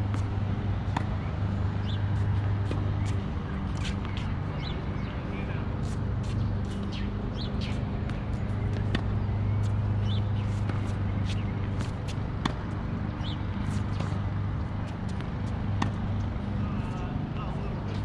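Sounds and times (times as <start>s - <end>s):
tennis balls struck and bouncing: 0.0s - 5.2s, 5.8s - 18.0s.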